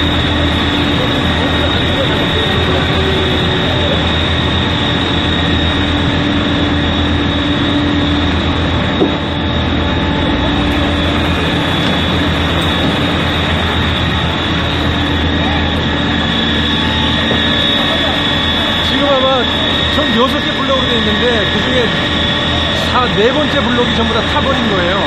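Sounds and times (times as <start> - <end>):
high whine: 0.0 - 25.0
mechanical drone: 0.0 - 25.0.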